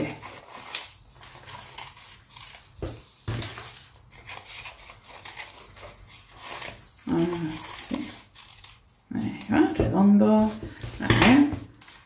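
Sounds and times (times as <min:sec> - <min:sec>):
paper rustling: 0:00.0 - 0:09.5, 0:10.3 - 0:12.0.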